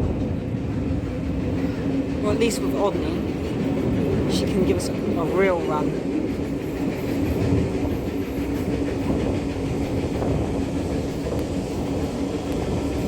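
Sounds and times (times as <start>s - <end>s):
clickety-clack of wheels: 0.0s - 13.0s
train wheels rumbling on rail: 0.0s - 13.0s.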